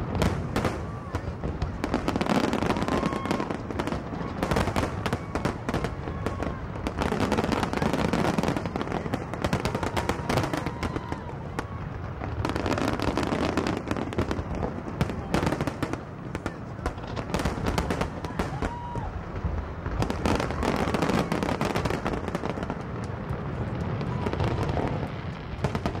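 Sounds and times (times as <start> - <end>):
continuous rumble: 0.0 - 26.0
fireworks bangs and crackles: 0.0 - 26.0.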